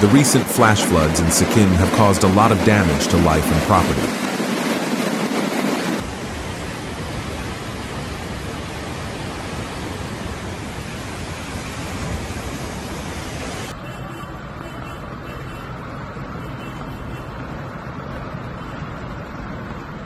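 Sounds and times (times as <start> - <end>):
rushing floodwater: 0.0 - 20.0.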